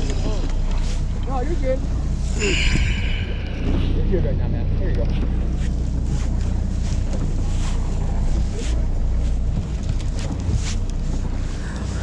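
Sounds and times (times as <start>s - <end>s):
boat engine humming: 0.0s - 12.0s
wind buffeting microphone: 1.8s - 12.0s.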